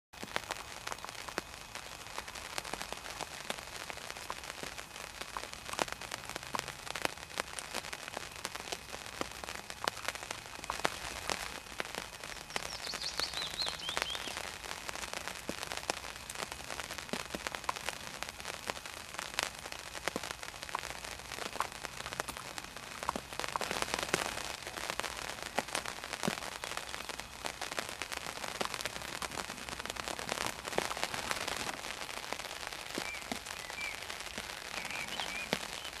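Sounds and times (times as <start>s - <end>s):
dense crackling patter: 0.2s - 36.0s.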